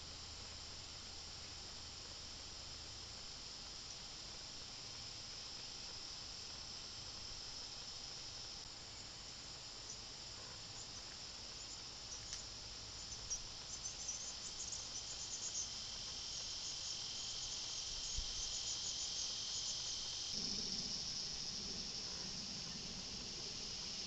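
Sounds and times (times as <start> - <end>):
insects trilling: 0.0 - 24.0
lower-pitched insect buzz: 0.0 - 24.0.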